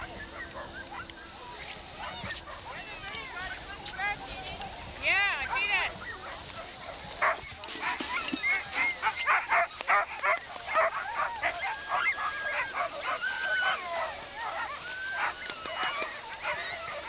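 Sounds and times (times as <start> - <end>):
dogs whining: 0.0 - 3.6, 5.0 - 17.0
dogs barking and yipping: 0.0 - 17.0.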